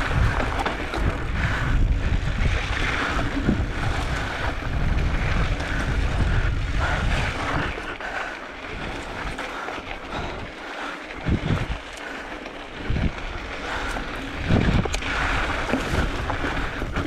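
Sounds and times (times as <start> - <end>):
tyres crunching over rocky trail: 0.0 - 17.0
wind buffeting microphone: 0.0 - 17.0.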